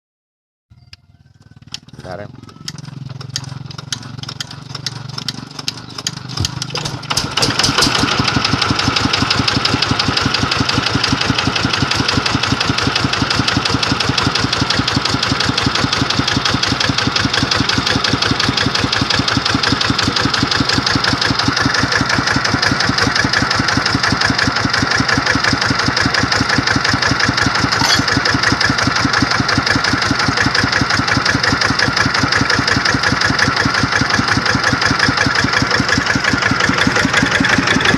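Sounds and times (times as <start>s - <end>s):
engine starting and idling: 1.0s - 37.9s.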